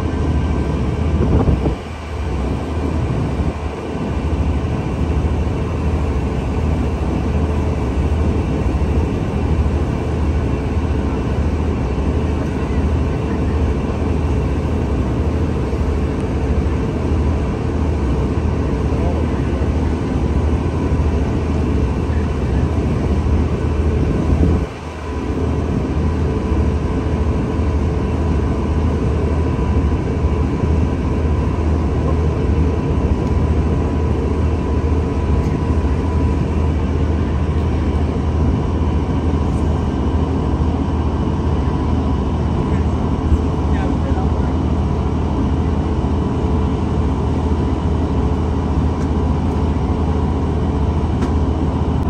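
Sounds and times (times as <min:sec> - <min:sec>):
heavy low engine rumble: 0:00.0 - 0:52.0.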